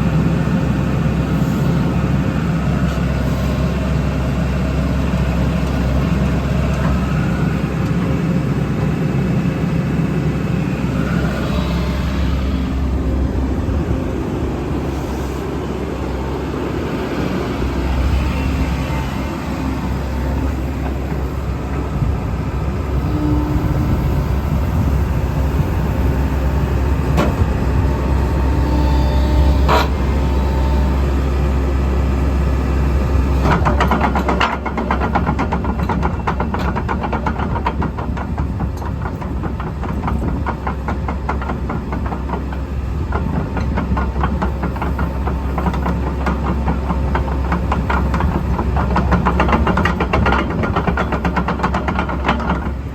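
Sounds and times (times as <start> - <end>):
excavator diesel engine humming: 0.0 - 52.9.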